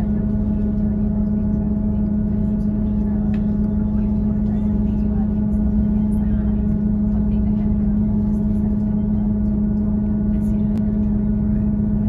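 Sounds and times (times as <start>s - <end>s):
train diesel engine humming: 0.0s - 12.0s.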